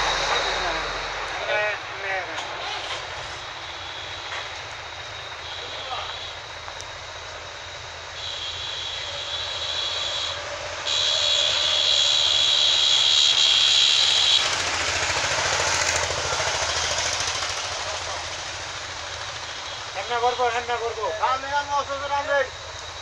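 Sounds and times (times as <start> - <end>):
loud rushing noise: 0.0 - 6.4, 8.2 - 21.2
high steady whine: 0.0 - 23.0
truck engine running: 0.0 - 23.0.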